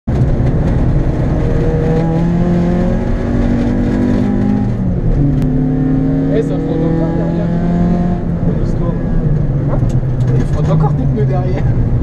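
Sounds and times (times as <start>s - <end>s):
car engine running hard: 0.1s - 12.0s.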